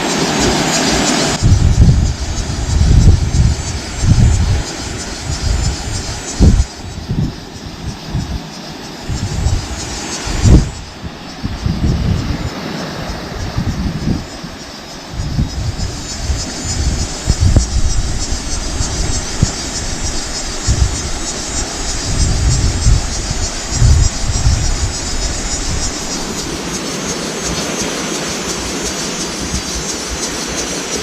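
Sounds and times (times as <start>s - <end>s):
sea surf washing: 0.0s - 31.0s
wind buffeting microphone: 0.0s - 31.0s.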